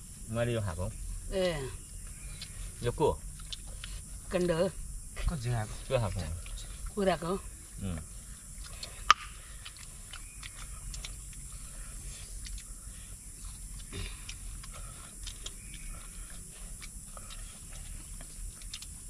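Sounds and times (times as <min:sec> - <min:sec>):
people chewing: 0:00.6 - 0:04.6, 0:05.4 - 0:19.0.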